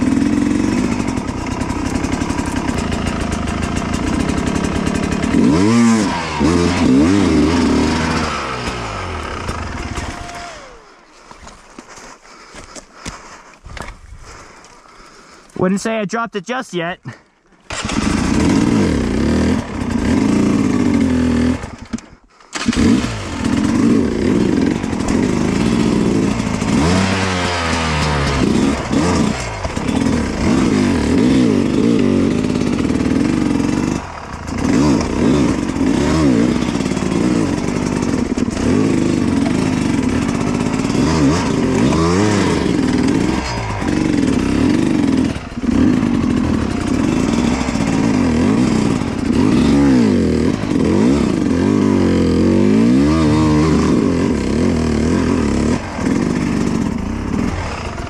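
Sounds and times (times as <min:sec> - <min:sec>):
dirt bike engine revving: 0:00.0 - 0:11.1, 0:17.7 - 0:58.0.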